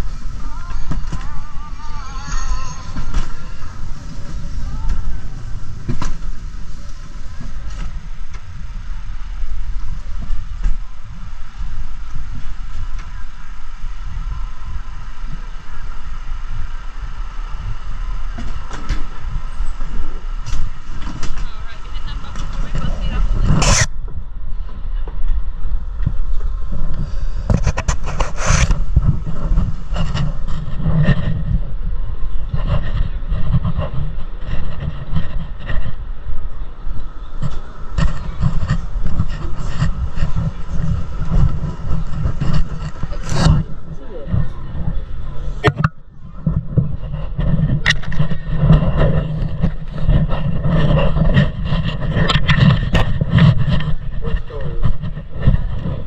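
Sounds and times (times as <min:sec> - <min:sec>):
sled wheels rumbling on rail: 0:00.0 - 0:56.0.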